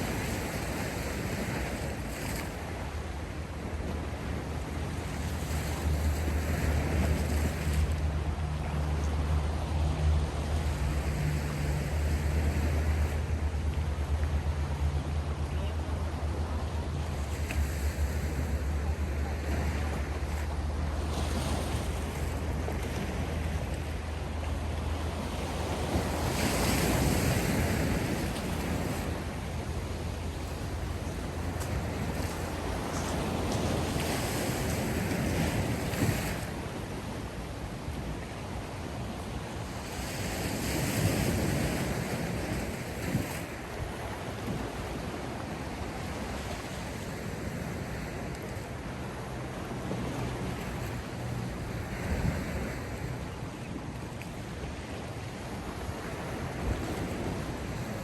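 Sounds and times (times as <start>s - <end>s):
sea waves washing in: 0.0s - 58.0s
wind rumbling on microphone: 0.0s - 58.0s.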